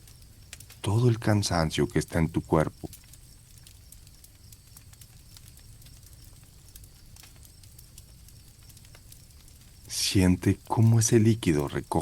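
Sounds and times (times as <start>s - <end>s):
campfire crackling: 0.0s - 12.0s
crickets chirping: 0.0s - 12.0s.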